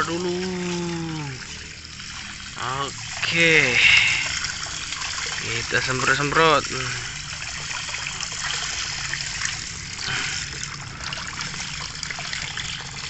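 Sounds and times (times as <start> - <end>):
hose water spraying on plastic: 0.0 - 13.0.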